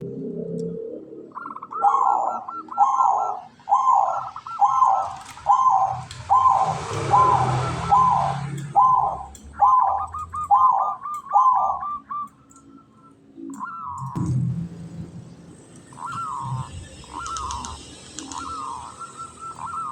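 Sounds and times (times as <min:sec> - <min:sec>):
dove cooing: 0:00.4 - 0:14.2, 0:15.9 - 0:19.9.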